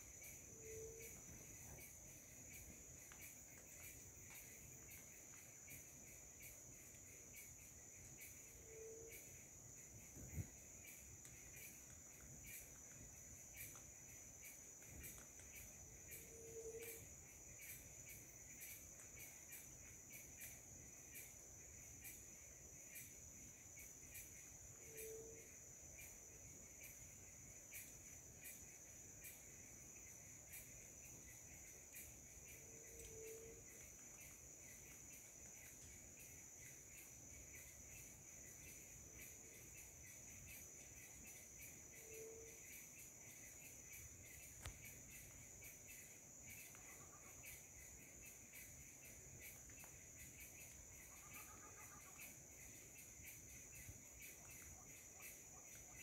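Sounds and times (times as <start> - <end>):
cricket drone: 0.0 - 56.0.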